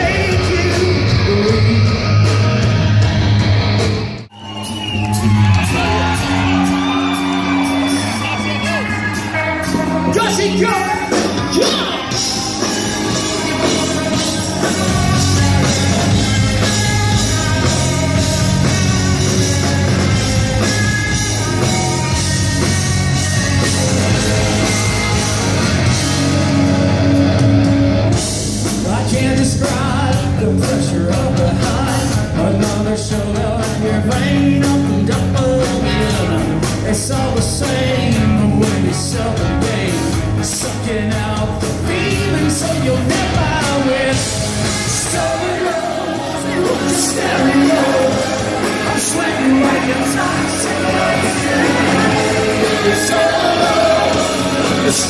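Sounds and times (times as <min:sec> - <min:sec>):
lead vocals: 0:00.0 - 0:03.2, 0:04.7 - 0:27.4, 0:28.1 - 0:55.0
bass guitar: 0:00.0 - 0:55.0
drums: 0:00.0 - 0:55.0
electric guitars: 0:00.0 - 0:55.0.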